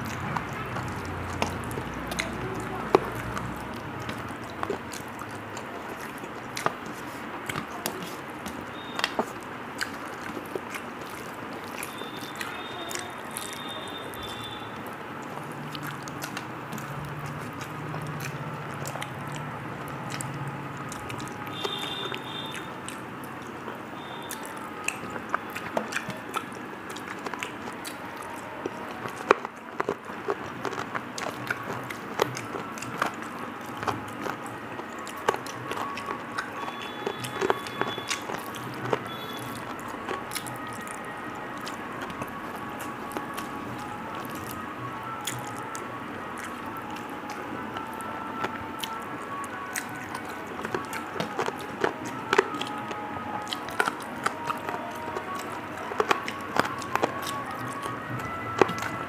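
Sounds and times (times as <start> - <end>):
wet eating by hand: 0.0 - 59.0.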